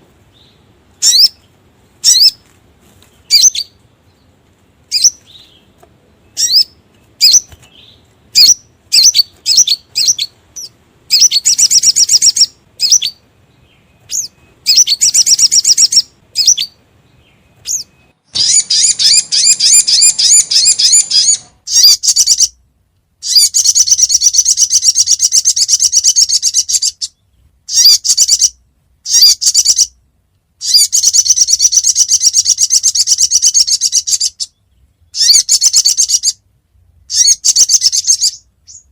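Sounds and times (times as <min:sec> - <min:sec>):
bird chirps and trills: 0:00.3 - 0:02.4, 0:03.0 - 0:22.6, 0:23.2 - 0:30.0, 0:30.6 - 0:38.9.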